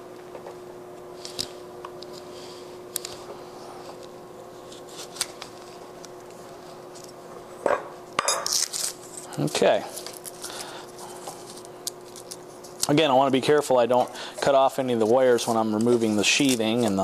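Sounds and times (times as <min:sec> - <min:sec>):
steady hum: 0:00.0 - 0:17.0
scraping and rustling of cable: 0:01.2 - 0:07.2, 0:08.5 - 0:17.0.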